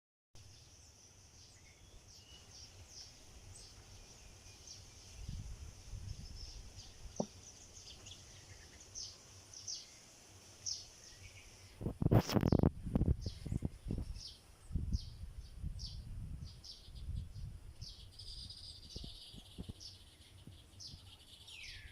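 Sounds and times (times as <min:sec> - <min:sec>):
small birds chirping: 0:00.4 - 0:21.9.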